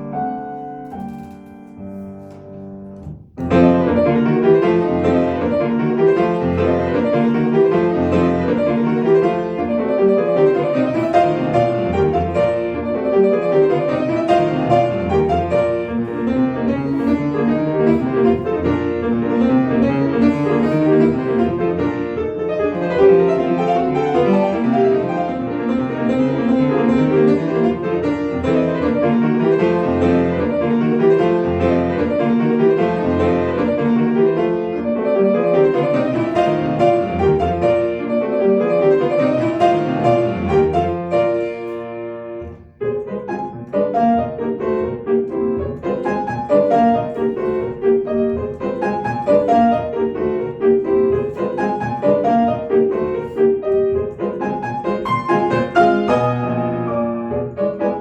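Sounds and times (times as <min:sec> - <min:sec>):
solo grand piano classical music: 0:00.0 - 0:58.0.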